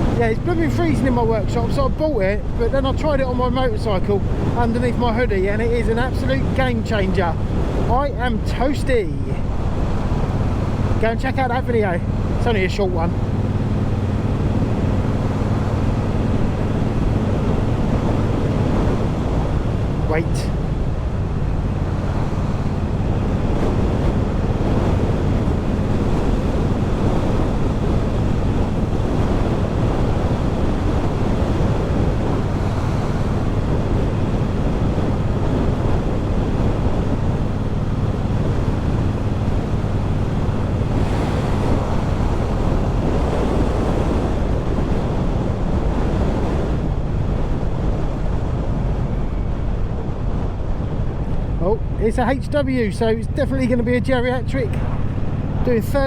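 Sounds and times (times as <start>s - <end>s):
motorcycle engine droning: 0.0s - 56.0s
wind buffeting microphone: 0.0s - 56.0s.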